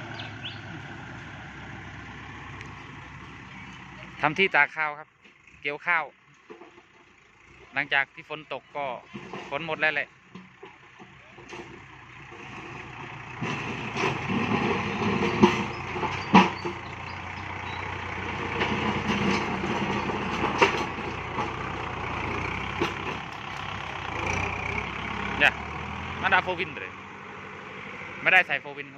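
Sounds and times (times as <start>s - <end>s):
tractor diesel engine under load: 0.0s - 28.9s.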